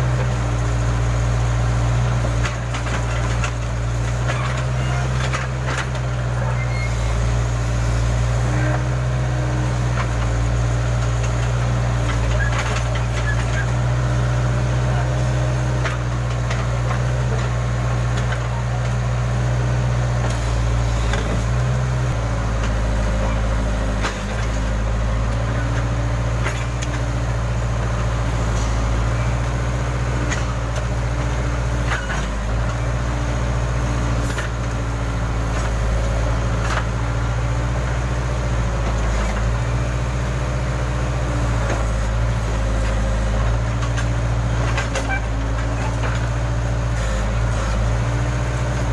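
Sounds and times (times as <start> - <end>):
backhoe diesel engine working: 0.0 - 48.9.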